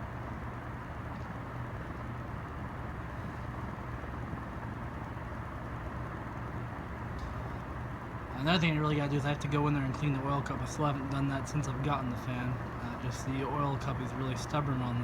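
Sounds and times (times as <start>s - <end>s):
fan blades whooshing: 0.0s - 15.0s
fan motor hum: 0.0s - 15.0s.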